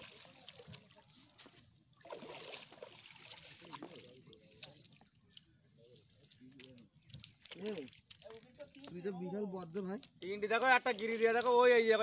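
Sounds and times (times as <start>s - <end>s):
water trickling off net: 0.0s - 9.6s.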